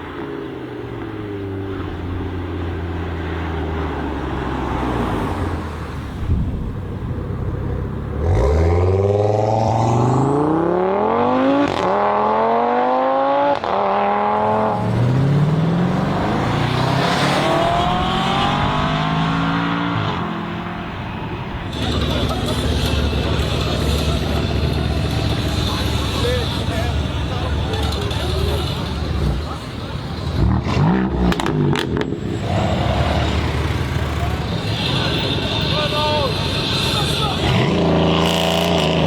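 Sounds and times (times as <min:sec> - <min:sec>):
car engine accelerating hard: 0:07.3 - 0:39.0.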